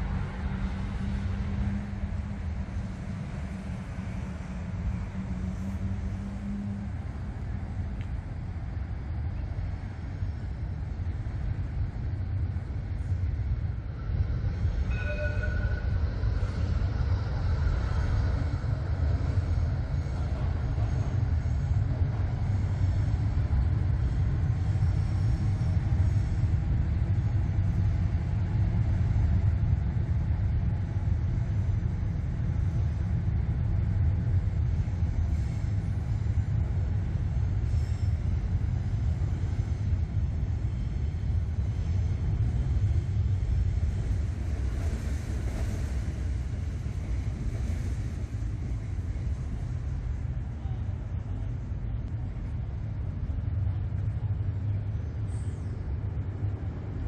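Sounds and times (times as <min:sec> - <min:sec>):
train rumbling over viaduct: 0:00.0 - 0:57.0.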